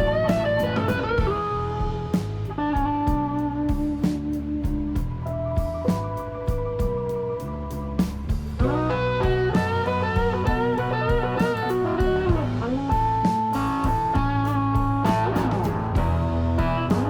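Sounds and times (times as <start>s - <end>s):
bass line and beat: 0.0s - 17.0s
electric guitar melody: 0.0s - 17.0s.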